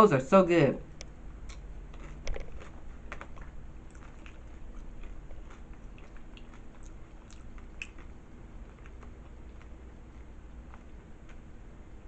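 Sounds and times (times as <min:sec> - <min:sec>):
person chewing crunchy food: 0:01.3 - 0:12.0.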